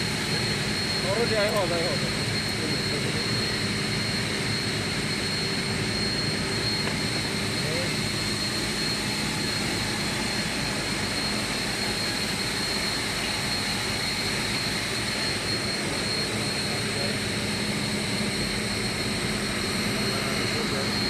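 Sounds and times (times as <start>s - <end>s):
high whine: 0.0s - 21.0s
industrial machinery hum: 0.0s - 21.0s.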